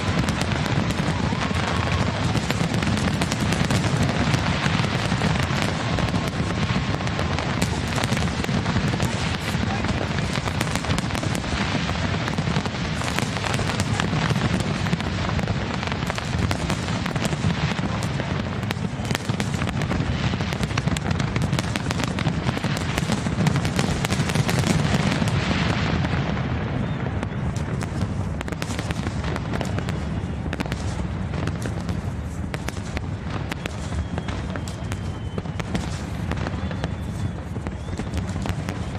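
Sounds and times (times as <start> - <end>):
fireworks booming: 0.0 - 38.9
fireworks crackling: 0.0 - 38.9.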